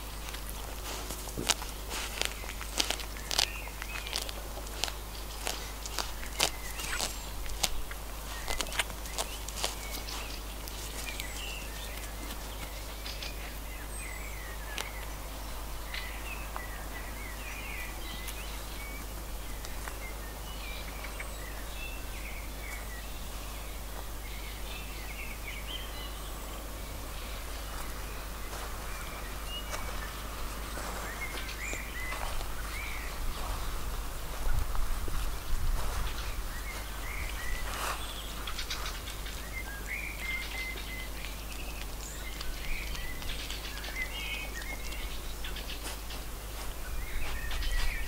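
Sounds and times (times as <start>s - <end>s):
constant low rumble: 0.0s - 48.0s
small birds chirping: 0.0s - 48.0s.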